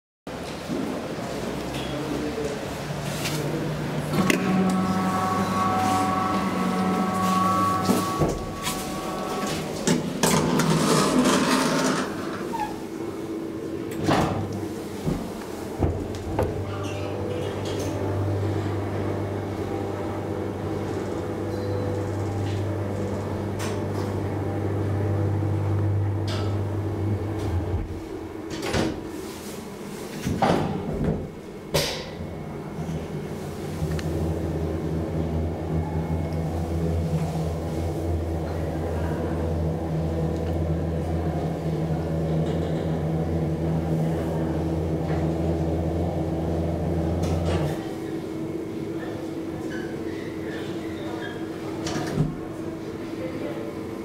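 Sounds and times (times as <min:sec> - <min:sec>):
elevator drive humming: 0:01.0 - 0:30.0, 0:30.7 - 0:54.0.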